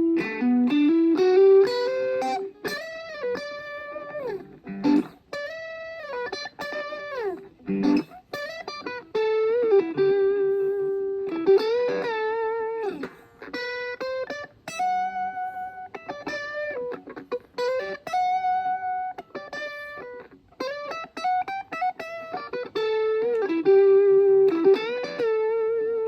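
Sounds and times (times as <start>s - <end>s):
electric guitar lead lines: 0.0s - 26.0s.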